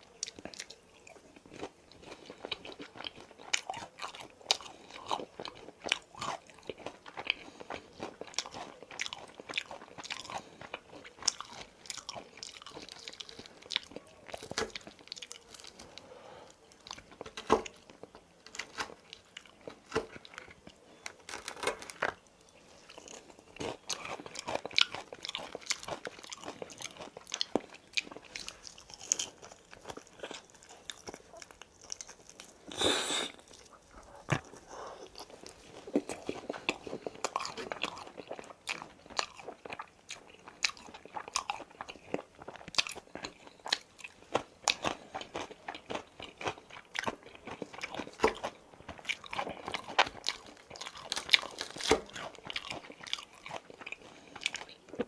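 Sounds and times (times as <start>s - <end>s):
chewing and crunching fried chicken: 0.0s - 55.0s.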